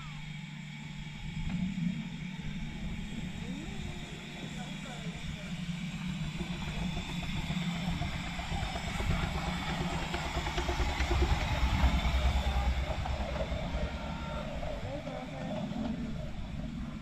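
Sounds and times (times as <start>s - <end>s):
miniature train rumbling past: 0.0s - 17.0s.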